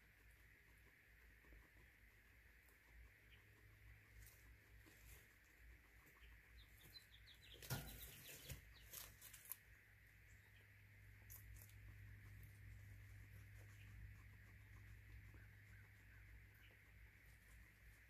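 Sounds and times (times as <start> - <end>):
faint steady hum: 0.0 - 18.0
guinea pig high chirps: 0.0 - 18.0
guinea pigs crunching pellets: 0.0 - 18.0.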